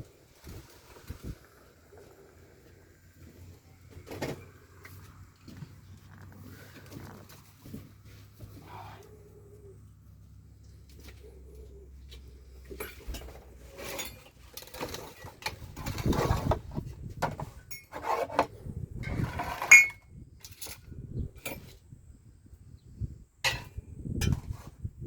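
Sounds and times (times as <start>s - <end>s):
rustling and clattering: 0.0s - 9.3s, 10.1s - 21.8s.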